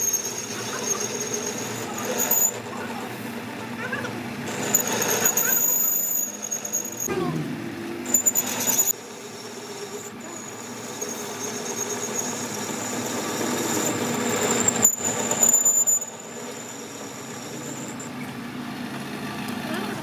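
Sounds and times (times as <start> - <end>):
high-pitched squeal: 0.0 - 3.0, 4.5 - 18.2
metal machining noise: 0.0 - 18.8.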